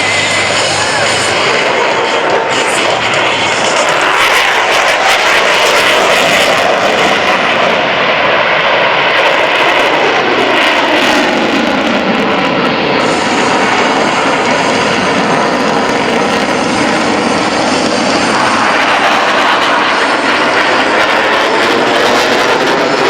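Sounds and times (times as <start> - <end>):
jet engines roaring in flight: 0.0 - 23.0.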